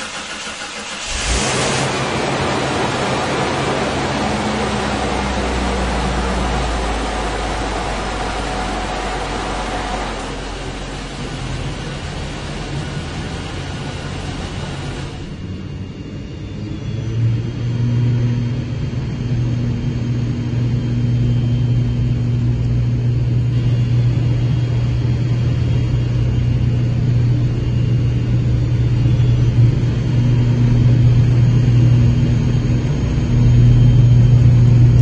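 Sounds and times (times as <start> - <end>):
car engine droning: 0.0 - 35.0.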